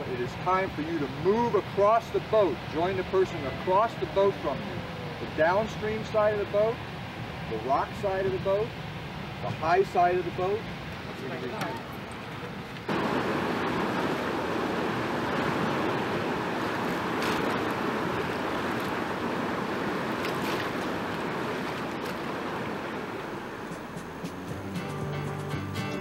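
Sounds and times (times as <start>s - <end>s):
whitewater rushing: 0.0s - 24.8s.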